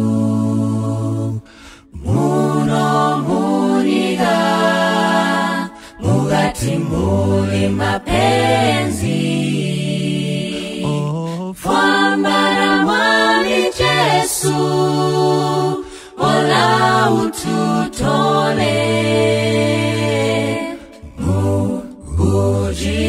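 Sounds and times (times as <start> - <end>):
vocal group singing in harmony: 0.0 - 23.0.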